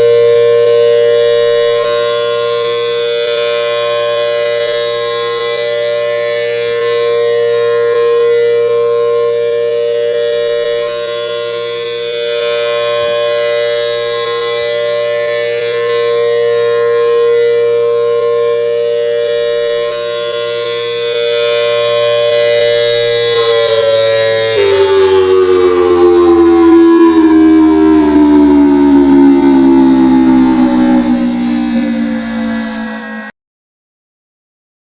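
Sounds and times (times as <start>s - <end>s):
tornado siren steady tone: 0.0s - 33.3s.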